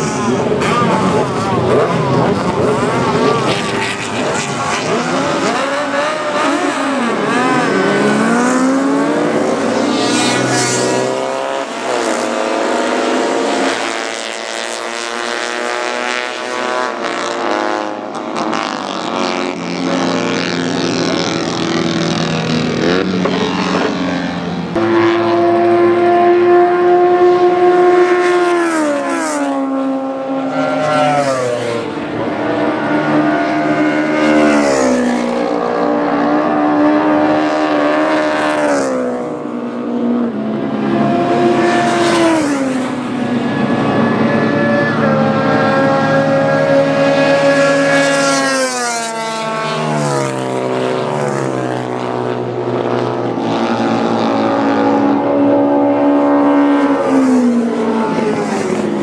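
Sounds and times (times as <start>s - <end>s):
racing engines accelerating: 0.0s - 59.0s.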